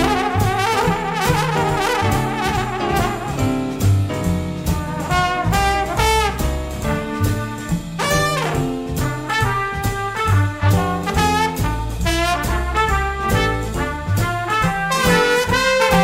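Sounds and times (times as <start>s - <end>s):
horn section playing: 0.0s - 3.8s, 4.6s - 16.0s
bass line: 0.0s - 16.0s
big band jazz: 0.0s - 16.0s.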